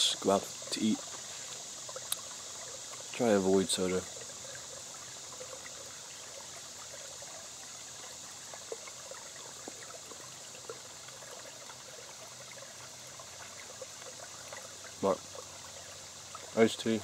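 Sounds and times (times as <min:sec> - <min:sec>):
stream trickling over rocks: 0:00.0 - 0:17.0.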